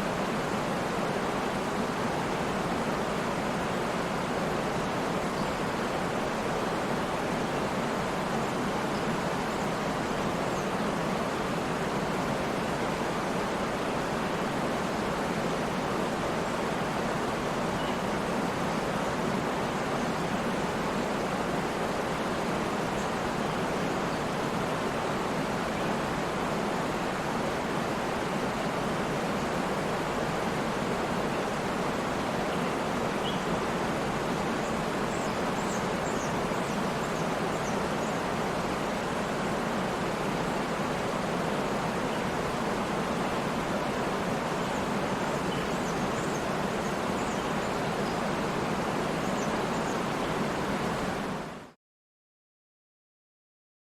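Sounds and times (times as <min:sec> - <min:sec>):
waterfall rushing: 0:00.0 - 0:51.5.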